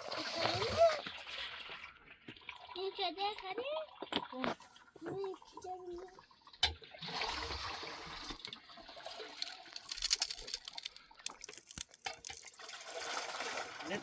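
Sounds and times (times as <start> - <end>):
liquid pouring and trickling: 0.0 - 14.0.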